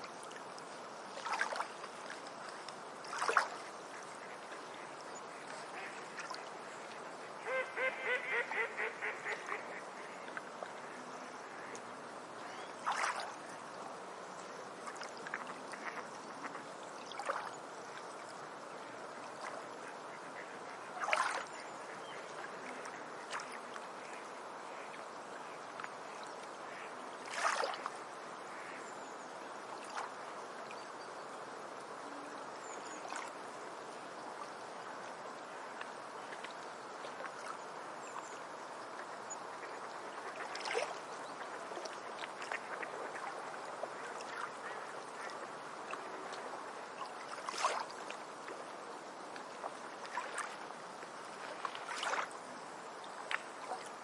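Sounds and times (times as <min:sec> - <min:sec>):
rush like flowing stream water: 0:00.0 - 0:54.0.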